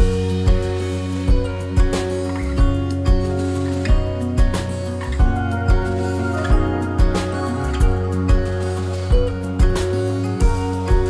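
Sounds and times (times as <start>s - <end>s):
sustained music chords: 0.0s - 11.0s.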